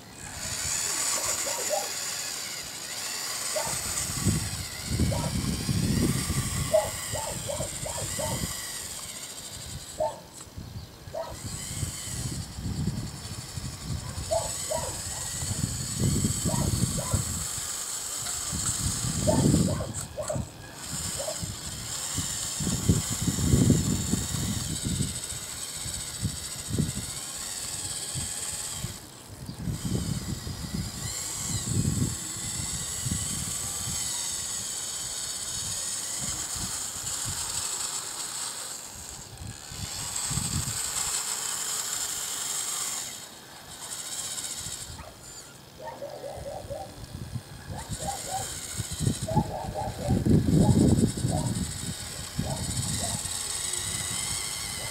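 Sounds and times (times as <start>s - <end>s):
electric motors whining: 0.0s - 54.9s.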